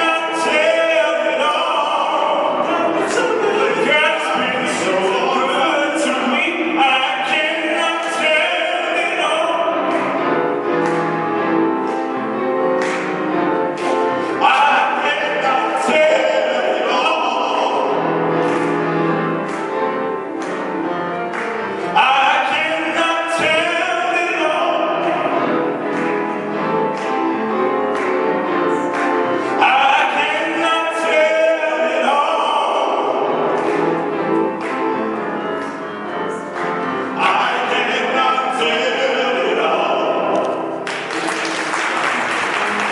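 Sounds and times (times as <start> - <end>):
group singing gospel in harmony: 0.0 - 40.8.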